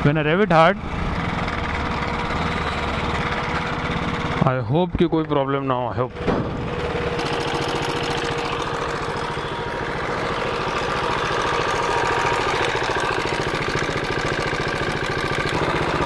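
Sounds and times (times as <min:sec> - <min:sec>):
motorcycle engine idling: 0:00.8 - 0:04.6, 0:06.1 - 0:16.0.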